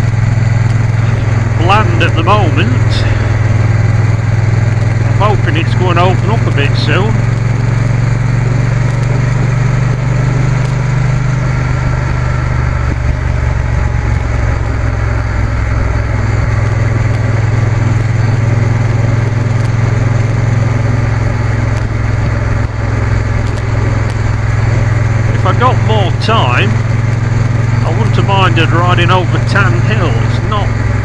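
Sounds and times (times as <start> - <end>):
motorcycle engine droning: 0.0 - 31.0
wind and road noise: 0.0 - 31.0.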